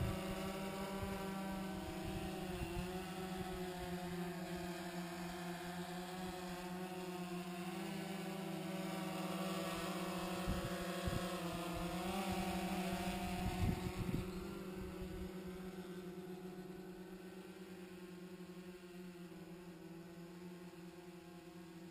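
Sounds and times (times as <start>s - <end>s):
drone propellers buzzing: 0.0s - 18.8s.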